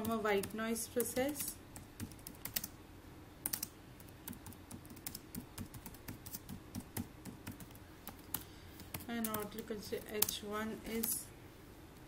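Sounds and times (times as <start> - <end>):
computer keyboard typing: 0.0 - 2.8, 3.4 - 10.4.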